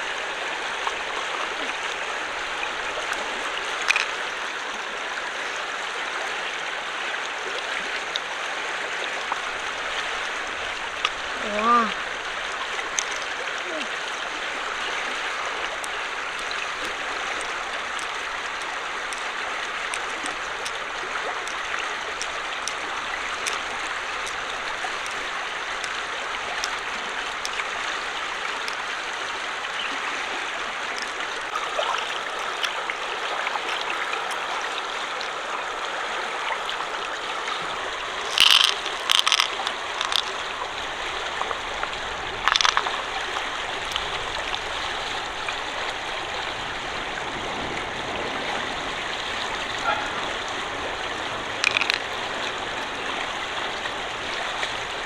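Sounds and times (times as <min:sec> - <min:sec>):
shallow water flowing: 0:00.0 - 0:55.0.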